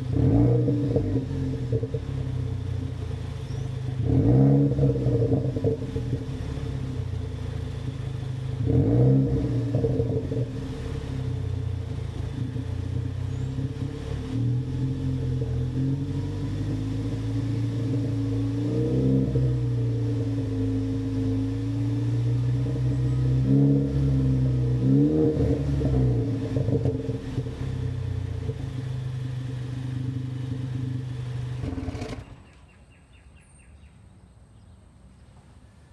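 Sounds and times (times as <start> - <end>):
car engine idling and revving: 0.0 - 32.8.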